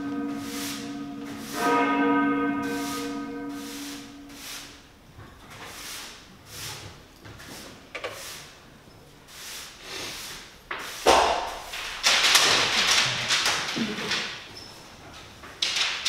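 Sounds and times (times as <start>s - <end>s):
loud scuffling and rustling: 0.1s - 8.4s, 10.0s - 16.0s.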